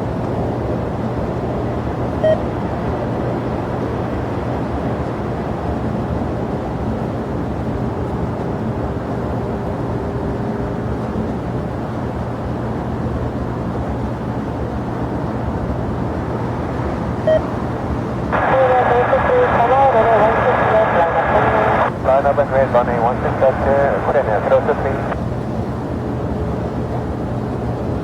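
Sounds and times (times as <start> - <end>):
jet aircraft engine rumble: 0.0 - 28.0.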